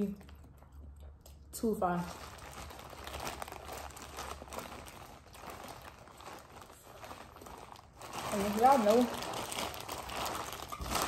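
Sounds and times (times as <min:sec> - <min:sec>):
plastic bag crinkling: 0:01.8 - 0:11.0.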